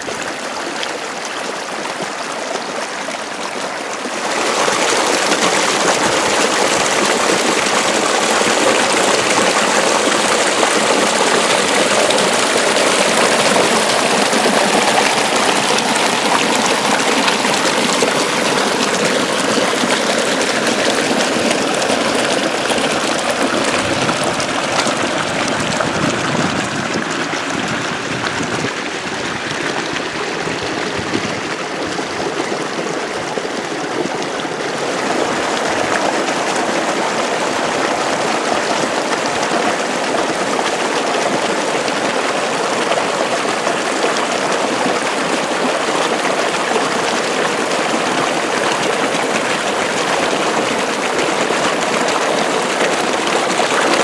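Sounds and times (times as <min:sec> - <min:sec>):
water flowing along a ditch: 0:00.0 - 0:54.0.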